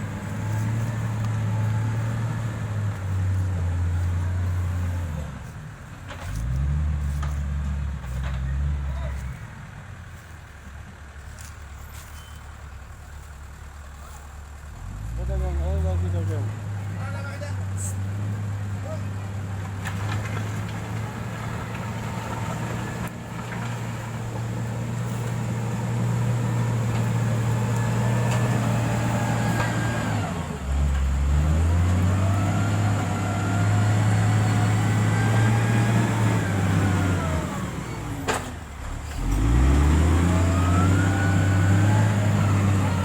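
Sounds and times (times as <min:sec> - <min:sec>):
engine whine: 0:00.0 - 0:17.1, 0:17.7 - 0:43.0
diesel engine running under load: 0:00.0 - 0:43.0.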